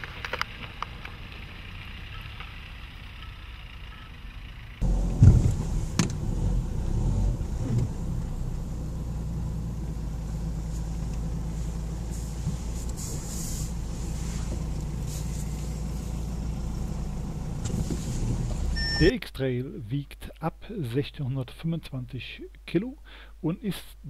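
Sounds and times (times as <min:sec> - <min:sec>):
diesel engine low rumble: 0:00.0 - 0:22.2.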